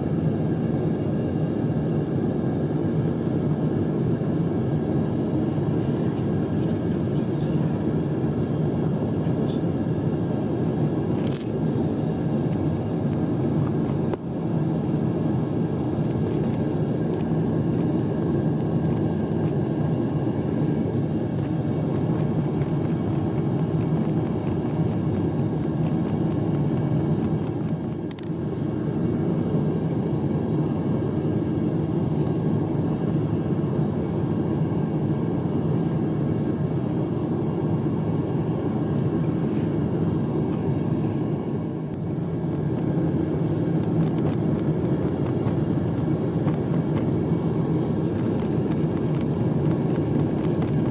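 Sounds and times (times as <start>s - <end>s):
furnace burner roaring: 0.0s - 50.9s.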